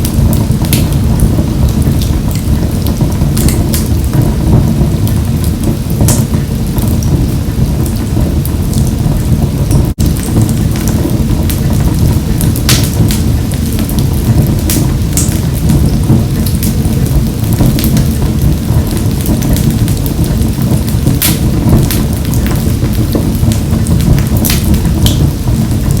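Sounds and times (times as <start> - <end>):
fire crackles and pops: 0.0 - 26.0
flames rumbling in a stove: 0.0 - 26.0.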